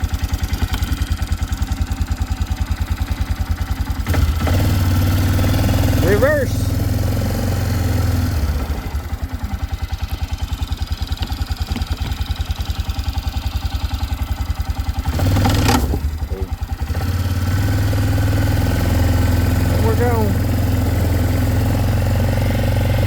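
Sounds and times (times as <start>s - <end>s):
atv engine running and revving: 0.0s - 23.0s.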